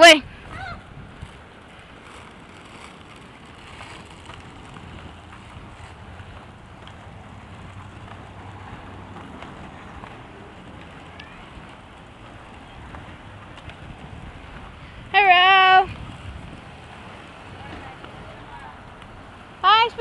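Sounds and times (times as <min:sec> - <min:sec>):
skateboard wheels rolling on asphalt: 0:00.0 - 0:20.0
wind buffeting microphone: 0:00.0 - 0:20.0.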